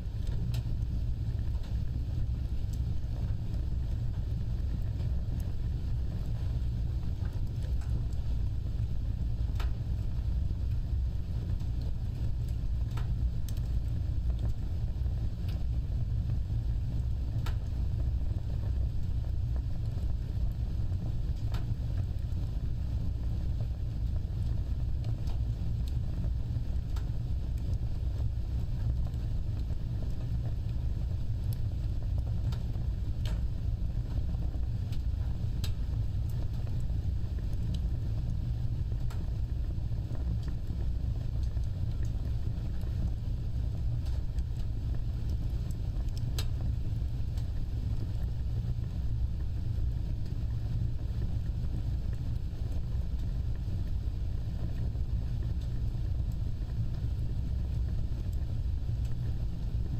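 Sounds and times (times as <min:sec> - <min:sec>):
fire crackles and pops: 0:00.0 - 0:59.9
fire rumbling: 0:00.0 - 0:59.9.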